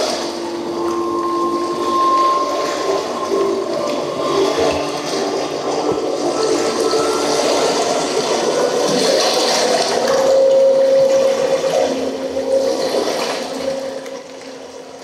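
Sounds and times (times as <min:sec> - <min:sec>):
faint held tone: 0:00.0 - 0:14.8
steady rushing water-like noise: 0:00.0 - 0:15.0.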